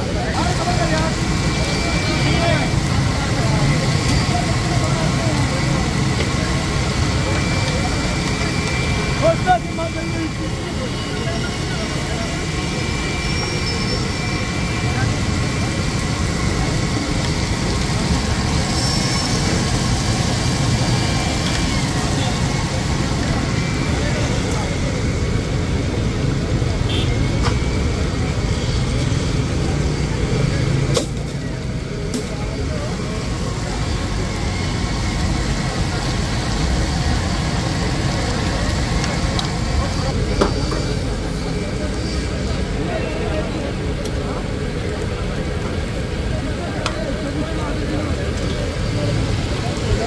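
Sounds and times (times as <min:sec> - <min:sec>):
fish sizzling in hot oil: 0:00.1 - 0:44.0, 0:44.7 - 0:50.0.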